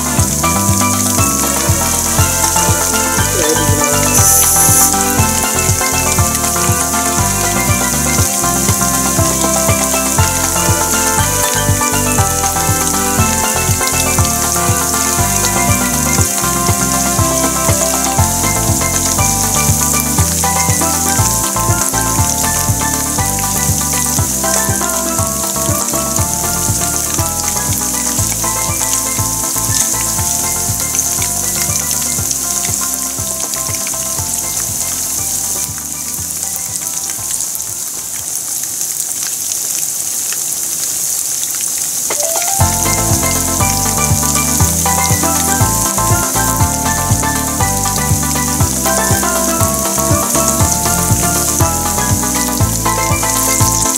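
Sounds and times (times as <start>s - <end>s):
background music: 0.0s - 39.0s, 42.1s - 53.9s
chicken deep-frying in hot oil: 0.0s - 53.9s.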